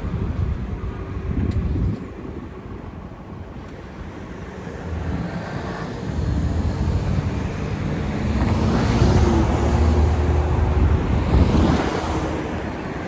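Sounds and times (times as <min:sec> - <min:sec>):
vehicle engine rumble and tyre noise: 0:00.0 - 0:13.0
wind buffeting microphone: 0:00.0 - 0:13.0.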